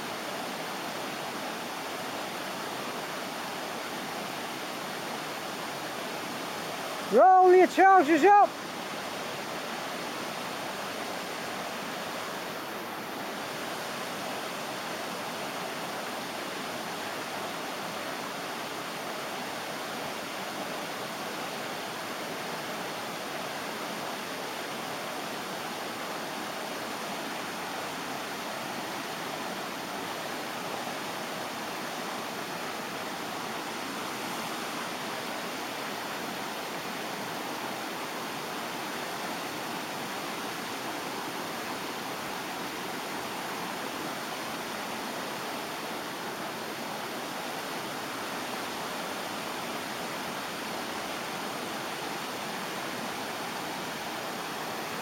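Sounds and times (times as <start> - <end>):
water rushing over weir: 0.0 - 55.0.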